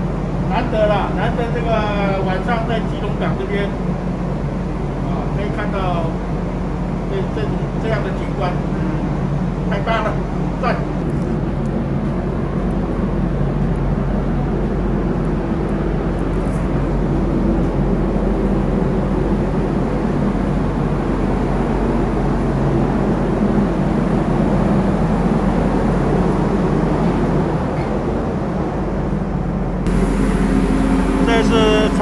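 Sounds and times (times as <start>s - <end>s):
ferry engines droning: 0.0s - 32.0s.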